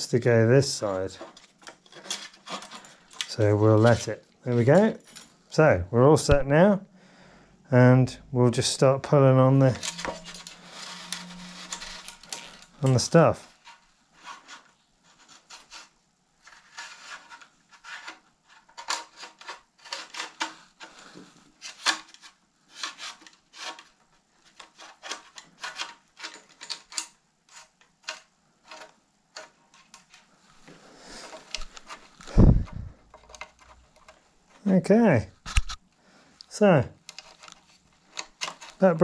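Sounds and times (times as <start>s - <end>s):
cable rubbing and scraping: 0.8s - 4.9s, 8.7s - 34.2s, 37.1s - 39.0s.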